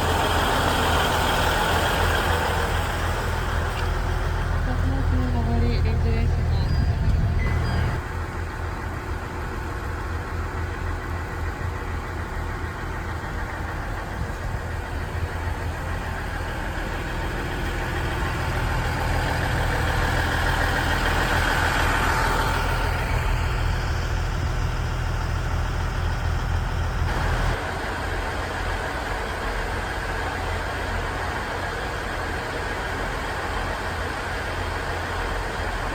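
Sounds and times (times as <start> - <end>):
diesel railcar engines idling: 0.0 - 35.9.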